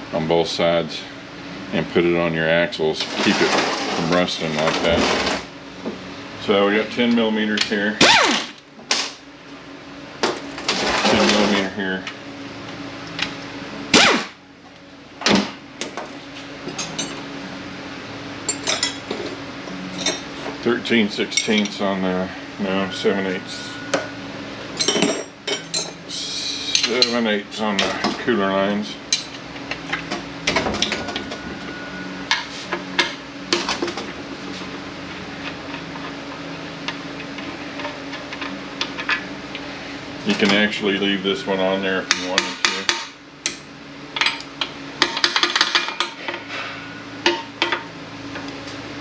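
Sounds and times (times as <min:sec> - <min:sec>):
low hum: 0:00.0 - 0:42.6.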